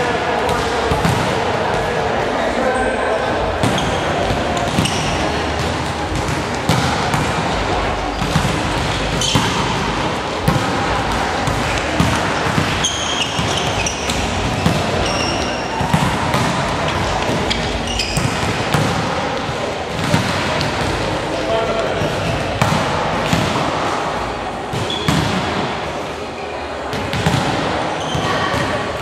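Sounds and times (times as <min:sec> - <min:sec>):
players' voices: 0:00.0 - 0:29.0.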